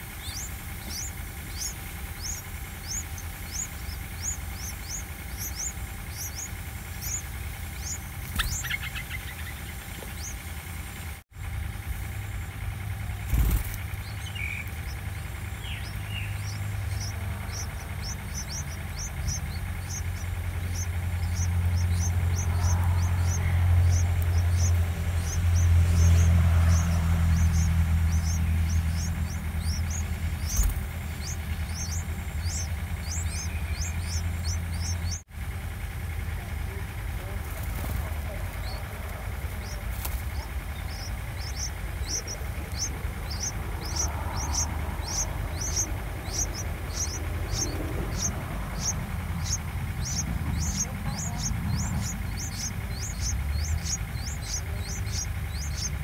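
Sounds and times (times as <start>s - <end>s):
nestlings begging squeaks: 0.0s - 56.0s
vehicle engine rumble: 0.0s - 56.0s.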